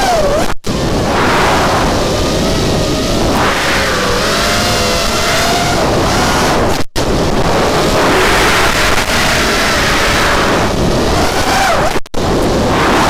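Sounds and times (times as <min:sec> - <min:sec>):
heavy rushing noise: 0:00.0 - 0:13.0
quadcopter motors whining: 0:00.0 - 0:13.0.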